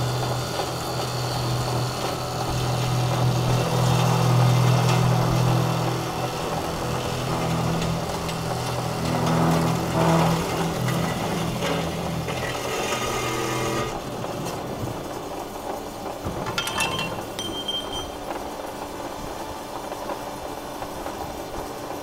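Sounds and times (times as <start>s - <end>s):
circular sawing machine running: 0.0s - 22.0s.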